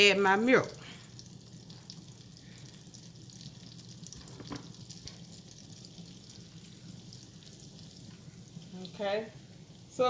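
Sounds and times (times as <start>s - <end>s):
butter sizzling in a saucepan: 0.0s - 10.0s.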